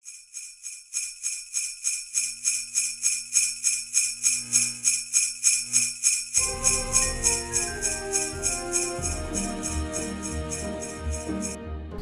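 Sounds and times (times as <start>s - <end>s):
sleigh bells shaking: 0.1s - 11.6s.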